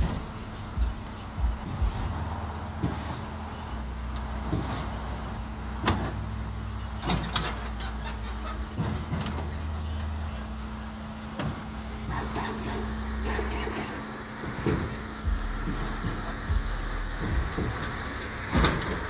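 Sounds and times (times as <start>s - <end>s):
hydraulic pump motors humming: 0.0s - 19.0s.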